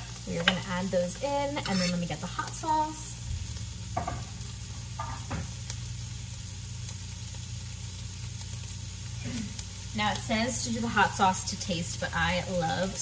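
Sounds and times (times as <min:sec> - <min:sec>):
low steady hum: 0:00.0 - 0:13.0
peppers sizzling in frying pan: 0:00.0 - 0:13.0.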